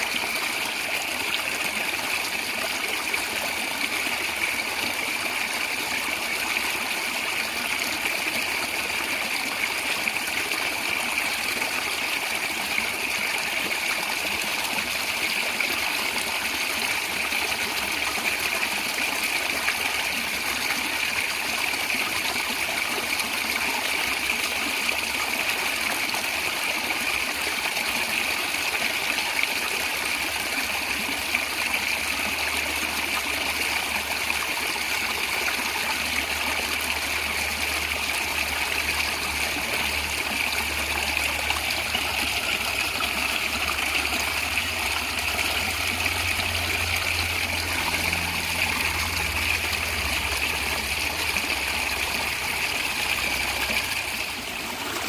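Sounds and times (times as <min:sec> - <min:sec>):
stream water gurgling: 0:00.0 - 0:55.0.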